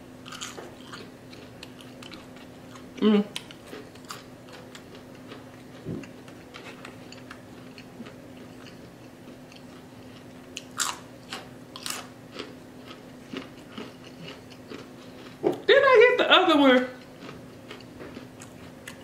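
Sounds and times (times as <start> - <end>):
chewing crispy fried fish: 0.2 - 15.5, 17.0 - 19.0.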